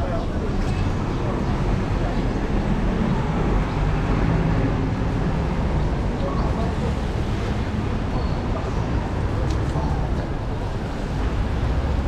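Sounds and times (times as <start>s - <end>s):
faint voices: 0.0s - 12.0s
traffic rushing on wet road: 1.6s - 12.0s.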